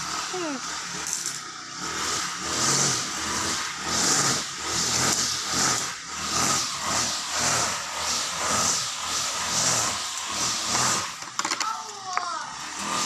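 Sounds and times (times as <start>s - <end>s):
broom sweeping concrete: 0.0s - 13.0s.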